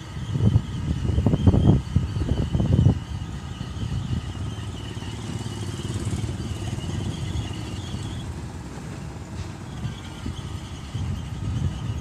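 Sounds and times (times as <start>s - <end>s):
distant diesel engine rumble: 0.0s - 12.0s.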